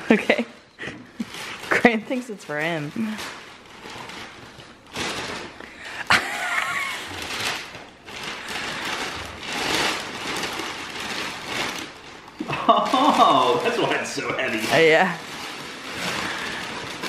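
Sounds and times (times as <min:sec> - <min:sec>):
wrapping paper tearing: 0:01.2 - 0:17.0.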